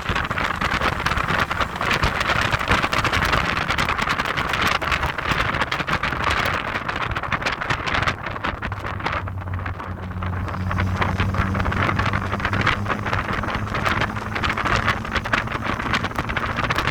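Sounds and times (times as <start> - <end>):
road and engine rumble: 0.0 - 16.9
wind buffeting microphone: 0.0 - 16.9.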